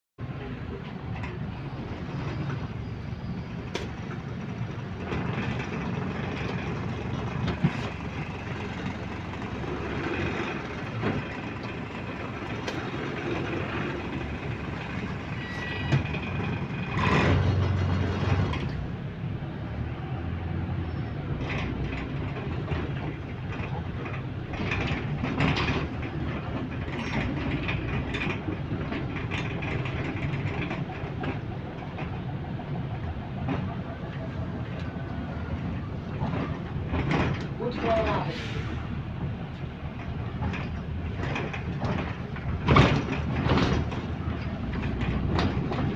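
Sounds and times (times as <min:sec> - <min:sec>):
bus engine running: 0:00.2 - 0:45.9
rattles and clicks: 0:03.7 - 0:18.8, 0:21.4 - 0:38.2, 0:39.5 - 0:45.9.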